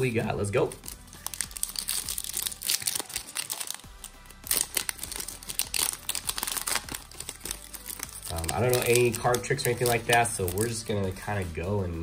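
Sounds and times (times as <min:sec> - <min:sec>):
background music: 0:00.0 - 0:12.0
plastic wrapper crinkling: 0:00.6 - 0:10.8.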